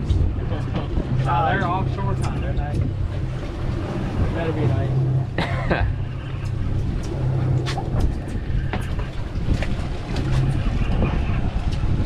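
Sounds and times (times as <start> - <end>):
outboard motors idling: 0.0 - 12.0
wind: 0.0 - 12.0.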